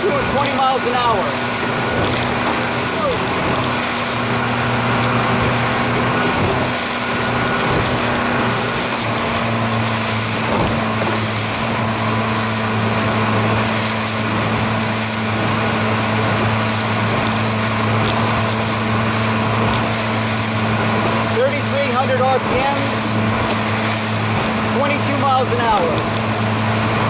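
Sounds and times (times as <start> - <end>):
motorboat engine droning: 0.0 - 27.0
wind and water rushing: 0.0 - 27.0.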